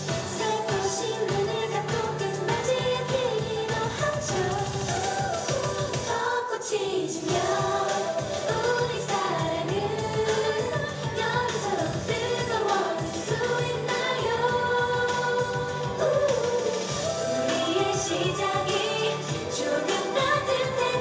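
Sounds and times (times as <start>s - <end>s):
women singing into microphones: 0.0s - 21.0s.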